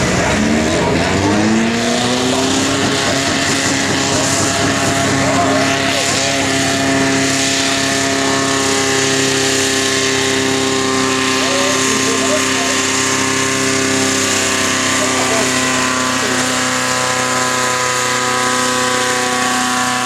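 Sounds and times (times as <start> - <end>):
tractor engine at full throttle: 0.0 - 20.0.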